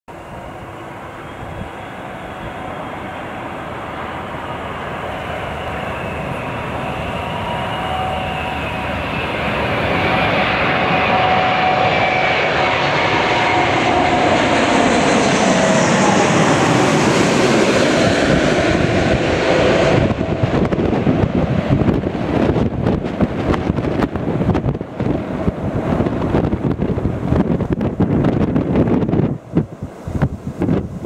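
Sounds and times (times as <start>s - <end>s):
faint engine whine: 0.1s - 31.0s
jet engine rumble: 0.1s - 31.0s.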